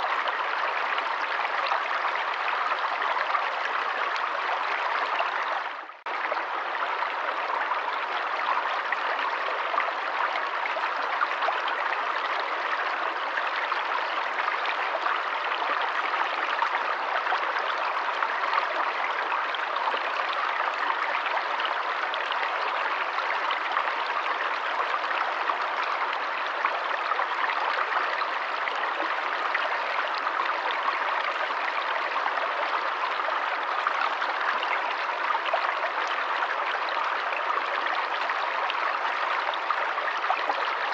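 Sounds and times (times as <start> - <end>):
stream water flowing and trickling: 0.0 - 40.9.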